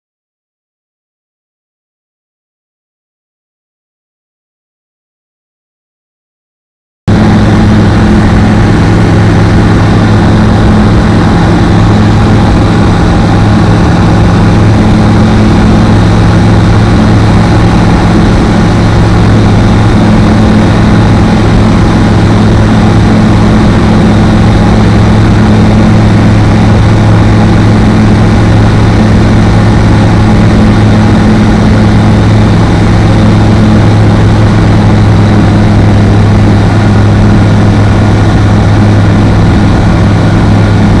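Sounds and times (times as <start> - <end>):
light aircraft engine droning: 7.1 - 41.0.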